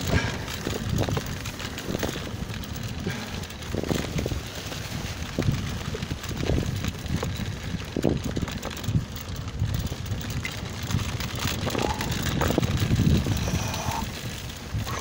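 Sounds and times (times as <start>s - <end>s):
wheels rumbling over dirt: 0.0s - 15.0s.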